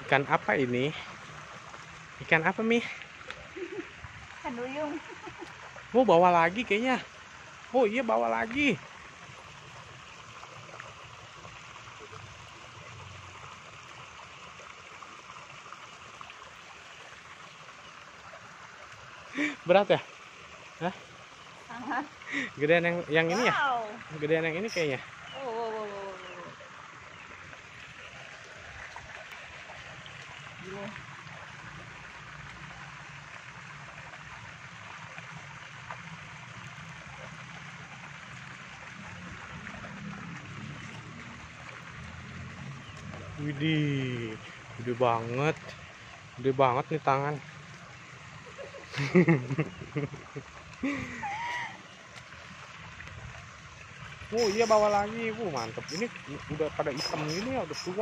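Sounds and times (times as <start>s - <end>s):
running water hiss: 0.0s - 58.0s.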